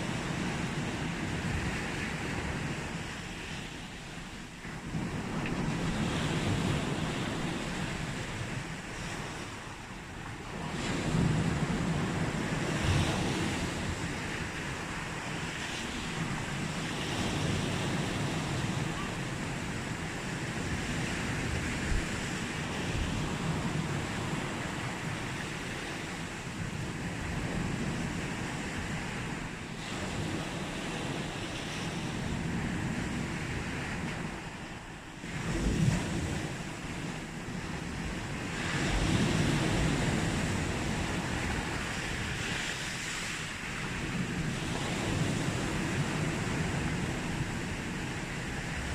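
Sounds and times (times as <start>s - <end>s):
sea waves breaking on shore: 0.0s - 48.9s
wind on microphone: 0.0s - 48.9s.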